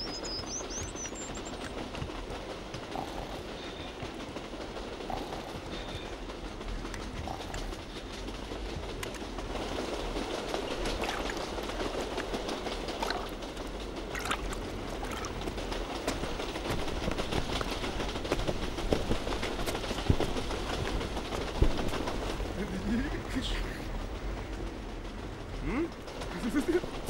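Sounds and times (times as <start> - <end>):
train clicks: 0.0 - 27.0
train rumbling: 0.0 - 27.0.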